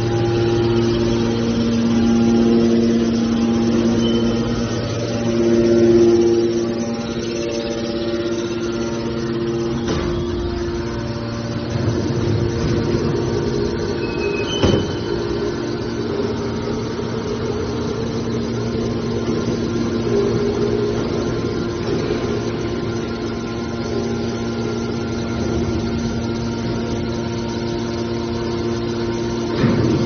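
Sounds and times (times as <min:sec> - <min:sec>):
motor and pump humming: 0:00.0 - 0:30.0.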